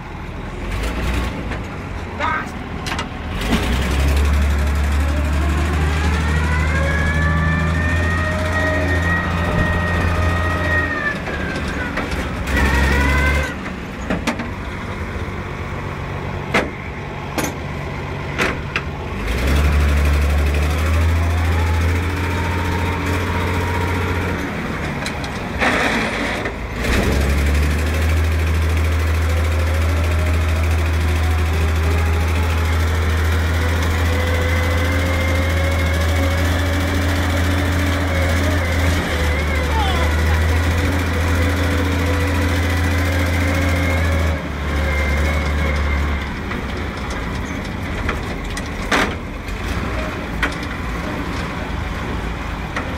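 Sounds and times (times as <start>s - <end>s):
tractor engine drone: 0.0s - 52.9s.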